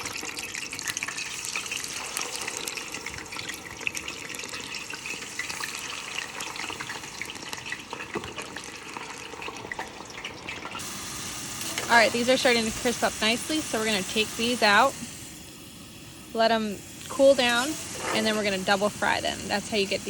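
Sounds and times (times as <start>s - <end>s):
fries sizzling in hot oil: 0.0s - 20.0s.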